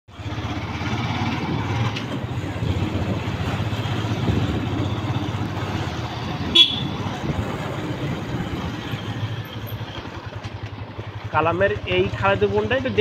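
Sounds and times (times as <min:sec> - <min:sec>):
motorcycle engine running: 0:00.1 - 0:13.0.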